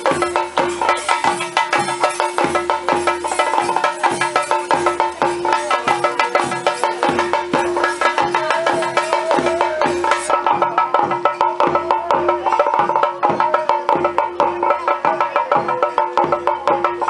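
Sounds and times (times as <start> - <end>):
drums beaten fast: 0.0 - 17.0.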